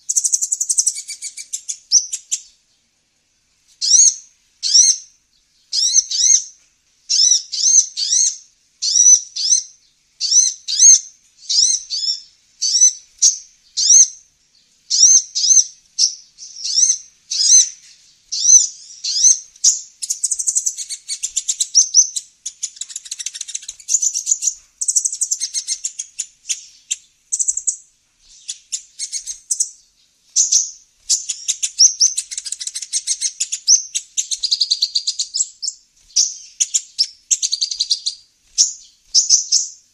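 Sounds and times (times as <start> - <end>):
bird chirping and twittering: 0.0 - 2.9, 3.8 - 39.9.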